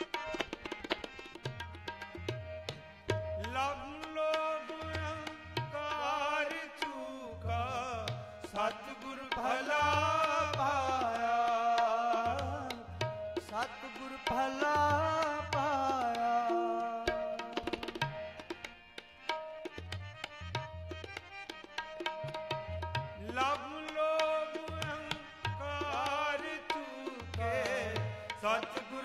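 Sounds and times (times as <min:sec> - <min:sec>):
harmonium chords: 0:00.0 - 0:29.0
tabla playing a rhythm: 0:00.0 - 0:29.0.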